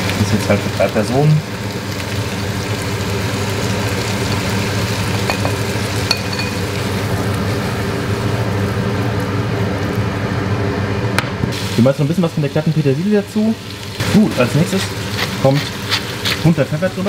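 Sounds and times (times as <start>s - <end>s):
seafood sizzling in frying pan: 0.0s - 10.4s, 11.5s - 17.0s.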